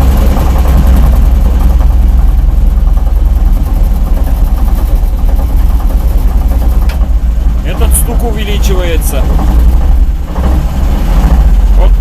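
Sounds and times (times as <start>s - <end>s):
car engine idling under load: 0.0s - 12.0s
rhythmic drivetrain knock: 0.0s - 12.0s.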